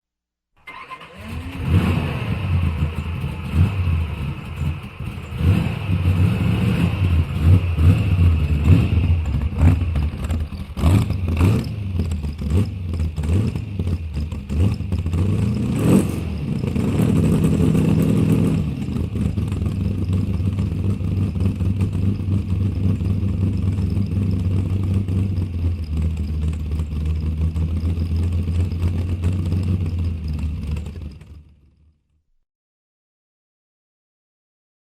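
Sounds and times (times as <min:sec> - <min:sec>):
car engine revving and idling: 0:00.7 - 0:31.8.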